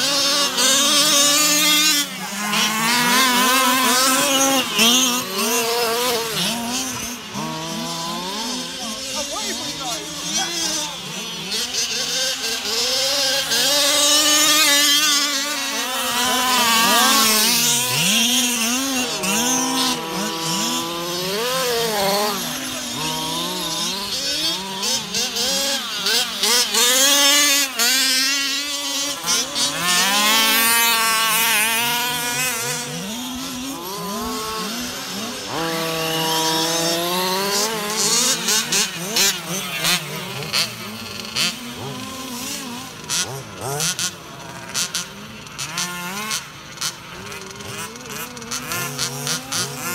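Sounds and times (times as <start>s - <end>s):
small two-stroke engines revving: 0.0s - 49.9s.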